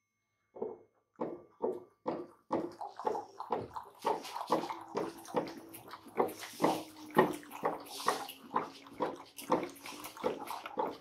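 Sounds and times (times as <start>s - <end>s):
water drops plopping: 2.1s - 11.0s.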